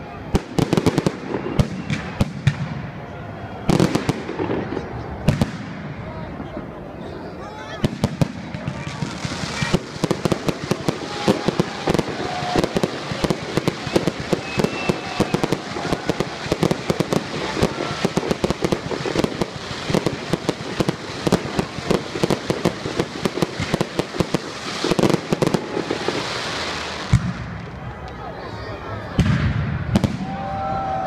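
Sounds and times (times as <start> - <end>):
fireworks bursting: 0.0 - 30.9.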